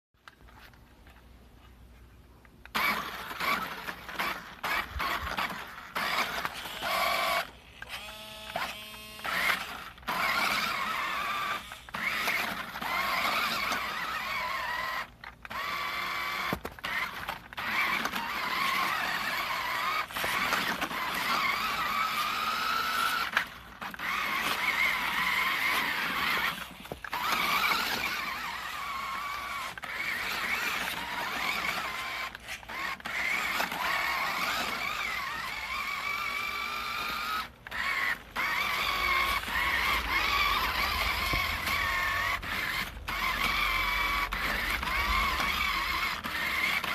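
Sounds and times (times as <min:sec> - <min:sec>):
toy electric motor whining: 0:02.6 - 0:46.9.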